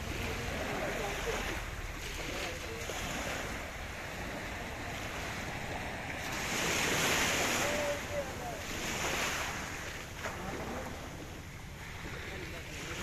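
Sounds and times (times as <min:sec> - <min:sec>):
waves washing onto sand: 0:00.0 - 0:13.0.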